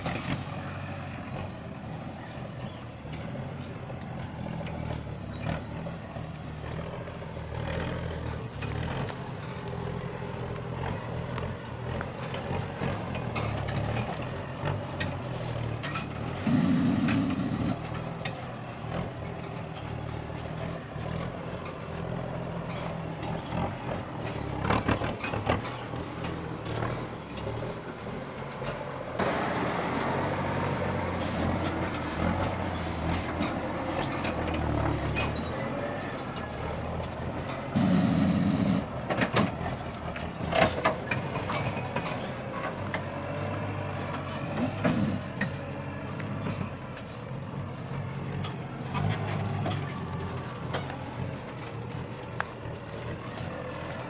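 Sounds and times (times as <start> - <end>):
truck engine running slowly: 0.0 - 54.0.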